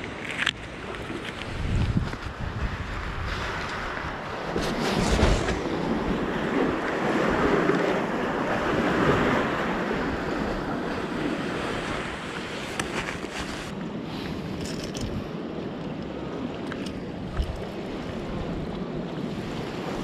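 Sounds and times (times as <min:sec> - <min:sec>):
sea water surging among concrete: 0:00.0 - 0:20.0
wind buffeting microphone: 0:00.0 - 0:20.0.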